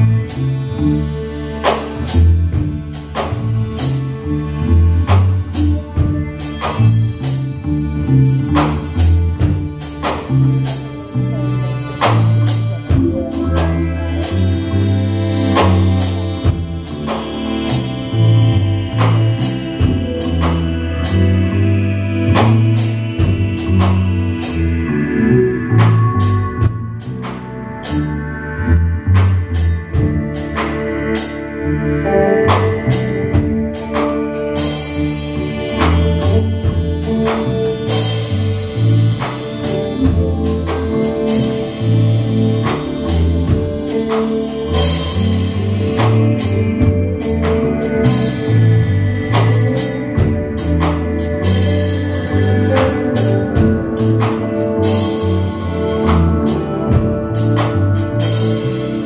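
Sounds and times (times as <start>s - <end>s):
cymbals: 0.0s - 59.0s
live rock band playing: 0.0s - 59.0s.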